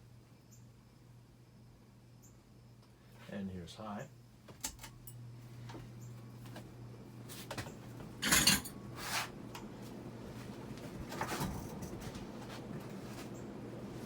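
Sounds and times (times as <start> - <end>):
ceiling fan running: 0.0 - 14.0.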